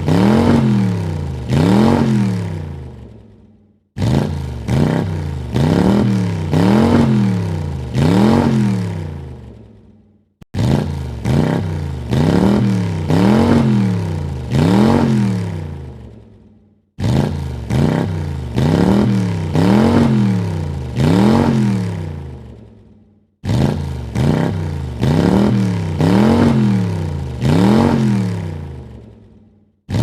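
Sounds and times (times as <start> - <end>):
car engine revving: 0.0 - 3.4, 4.0 - 9.7, 10.5 - 16.2, 17.0 - 22.6, 23.4 - 29.1.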